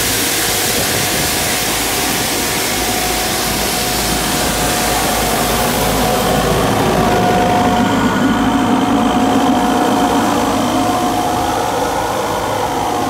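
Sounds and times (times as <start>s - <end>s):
faint steady whine: 0.0s - 13.0s
sweeper engine and suction fan drone: 0.0s - 13.0s.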